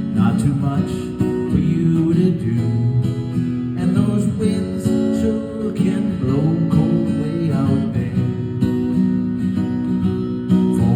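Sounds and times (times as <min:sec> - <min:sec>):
acoustic guitar strumming chords: 0:00.0 - 0:10.9.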